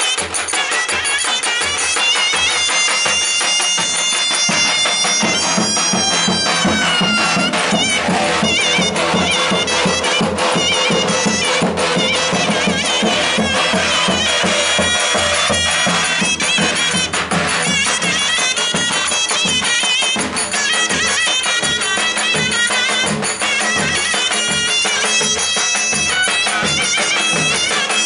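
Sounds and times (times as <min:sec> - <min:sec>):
reed wind instrument melody: 0:00.0 - 0:28.0
steady drum beat: 0:00.0 - 0:28.0.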